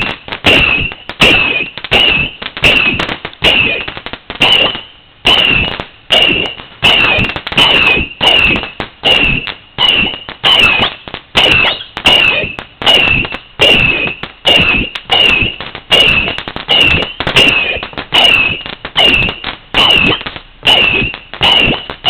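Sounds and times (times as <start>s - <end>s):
firework bangs: 0.0s - 22.0s
firework whistles: 0.0s - 22.0s.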